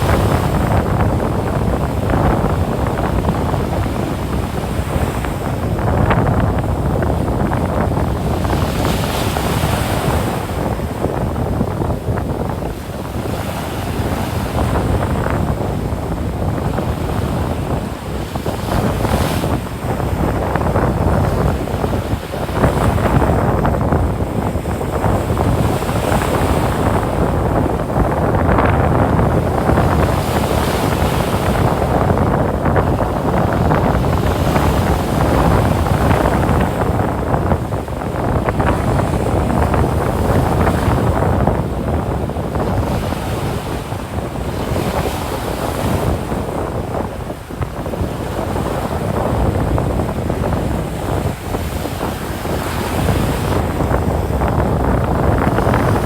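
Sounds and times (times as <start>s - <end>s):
ocean surf breaking on beach: 0.0s - 56.0s
wind rumbling on microphone: 0.0s - 56.0s.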